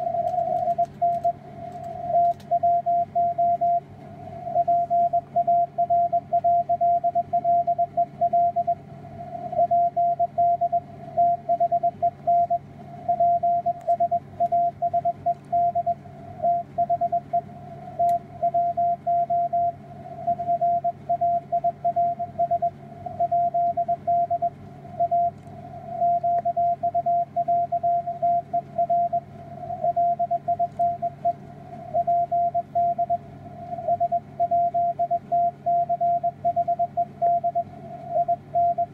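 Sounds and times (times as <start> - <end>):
morse code beeps: 0.0 - 3.8, 4.6 - 8.8, 9.6 - 25.4, 26.0 - 33.2, 33.8 - 38.9
faint hum and radio hiss: 0.0 - 38.9.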